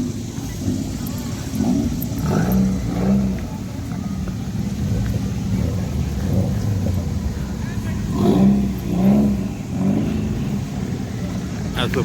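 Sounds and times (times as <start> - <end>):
car engine running: 0.0 - 12.0
faint voices: 0.0 - 12.0.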